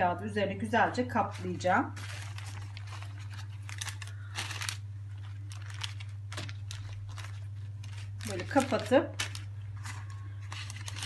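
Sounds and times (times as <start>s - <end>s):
steady low hum: 0.0s - 11.0s
baking paper crinkling: 0.9s - 11.0s.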